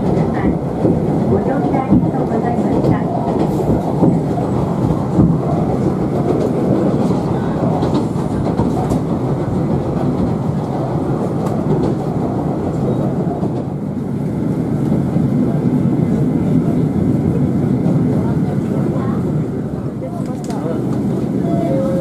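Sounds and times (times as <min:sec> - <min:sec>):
railcar wheels and engine rumbling: 0:00.0 - 0:22.0.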